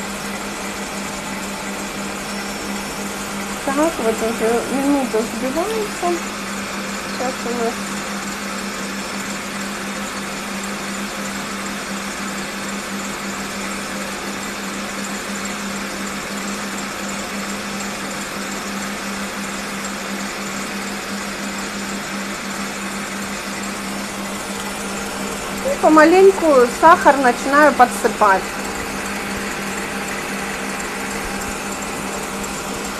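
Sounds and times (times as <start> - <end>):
stand mixer motor hum: 0.0 - 32.9.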